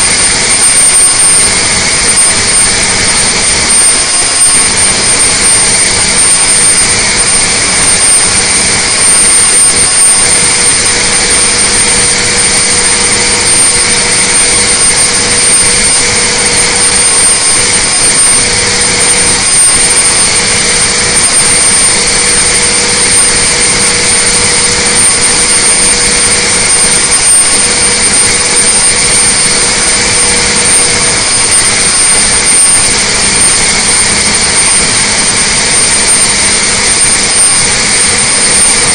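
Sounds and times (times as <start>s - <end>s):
diesel engine roaring: 0.0s - 38.9s
high engine whine: 0.0s - 38.9s.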